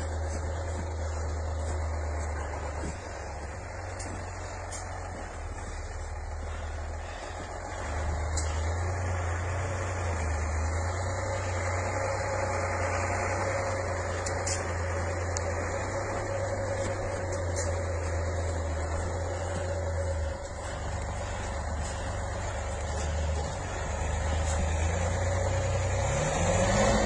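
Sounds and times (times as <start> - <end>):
vehicle engine in snow: 0.0 - 27.0.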